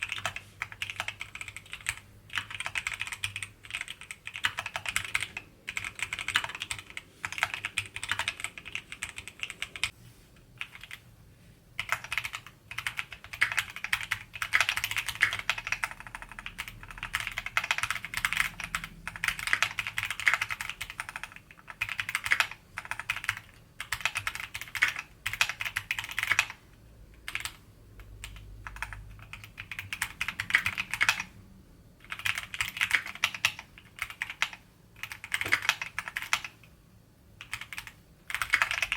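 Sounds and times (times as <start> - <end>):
mechanical keyboard typing: 0.0 - 9.9, 10.6 - 11.0, 11.8 - 31.4, 32.0 - 36.7, 37.4 - 38.9.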